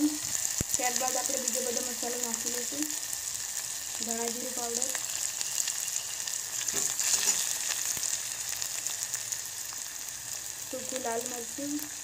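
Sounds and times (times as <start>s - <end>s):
hot oil sizzling with spices: 0.0s - 12.0s
seeds crackling in oil: 0.0s - 12.0s.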